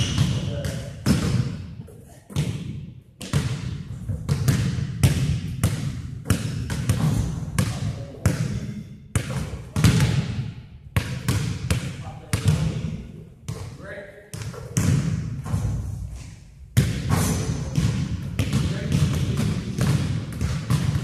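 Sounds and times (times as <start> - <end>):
basketballs bouncing on gym floor: 0.0 - 15.9, 16.7 - 21.0.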